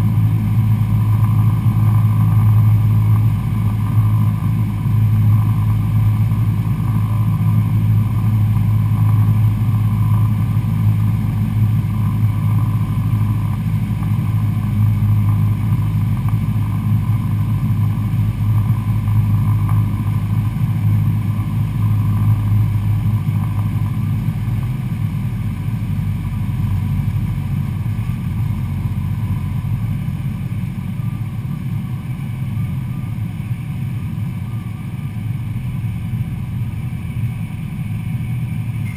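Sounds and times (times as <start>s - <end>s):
light aircraft engine drone: 0.0s - 38.9s.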